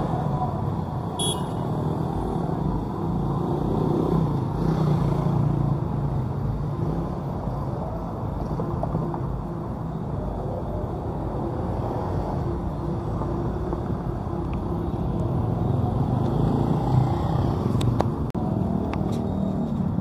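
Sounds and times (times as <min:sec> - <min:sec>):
cars and motorcycles driving past: 0:00.0 - 0:20.0.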